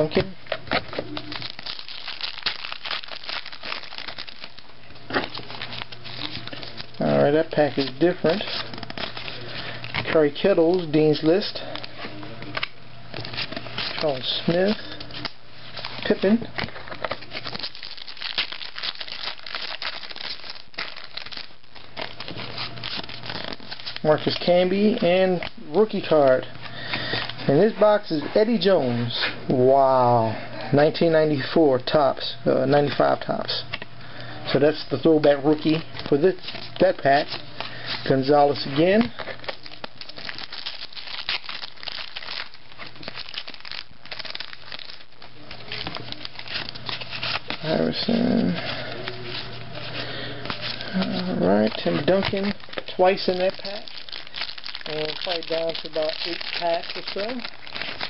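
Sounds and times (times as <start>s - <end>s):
foil wrapper crinkling: 0.7s - 28.2s, 35.0s - 58.0s.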